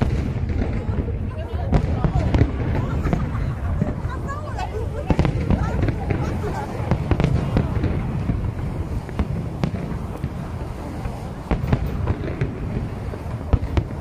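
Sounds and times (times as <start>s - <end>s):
firework shells bursting: 0.0s - 14.0s.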